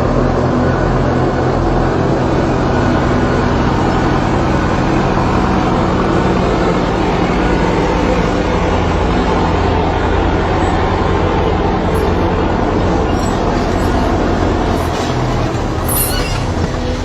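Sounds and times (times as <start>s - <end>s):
heavy vehicle engine droning: 0.0s - 17.0s.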